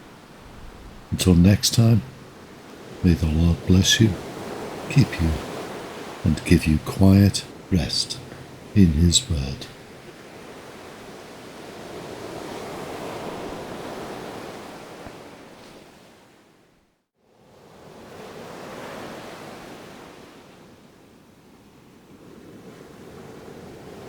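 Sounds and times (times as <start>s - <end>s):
ocean waves washing on shore: 0.0s - 16.4s, 17.4s - 21.0s, 22.1s - 24.0s.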